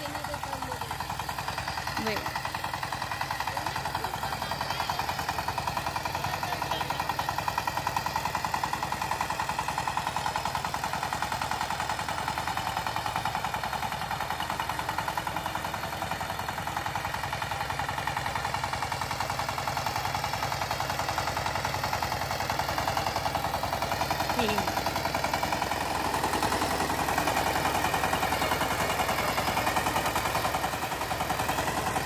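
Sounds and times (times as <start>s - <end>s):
diesel engine chugging: 0.0s - 32.0s
rotary tiller churning soil: 0.0s - 32.0s.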